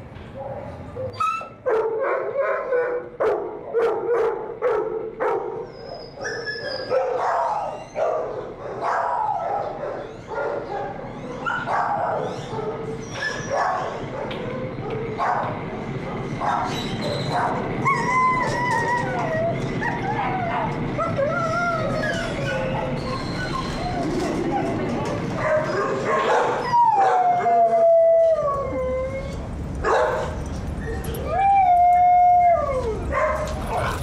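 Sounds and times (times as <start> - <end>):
dogs barking and yelping: 0.3 - 34.0.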